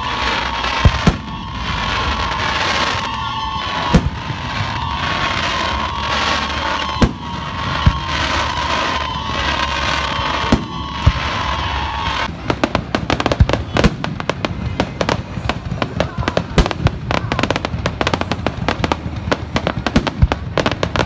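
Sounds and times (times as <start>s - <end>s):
fireworks crackling and bangs: 0.0s - 21.0s.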